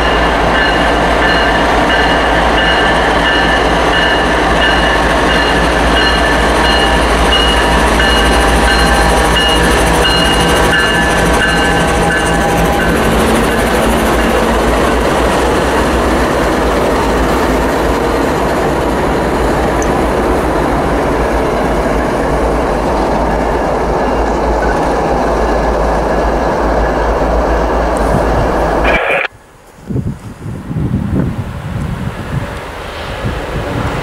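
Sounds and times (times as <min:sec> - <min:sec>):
locomotive engine drone: 0:00.0 - 0:29.3
train rushing rumble: 0:00.0 - 0:34.0.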